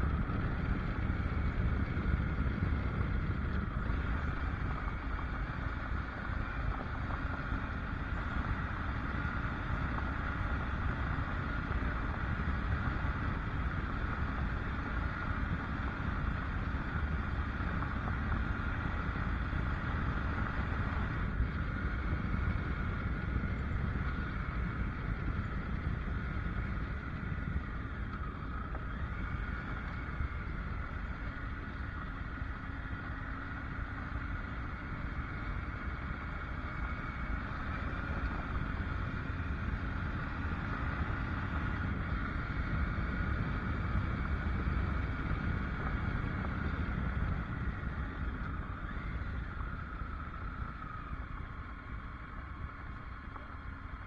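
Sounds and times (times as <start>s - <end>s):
motorcycle running at low speed: 0.0s - 54.0s.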